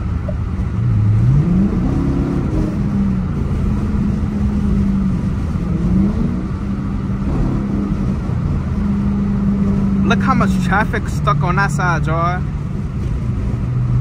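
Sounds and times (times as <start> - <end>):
car engine droning: 0.0 - 14.0
tyre and road noise: 0.0 - 14.0.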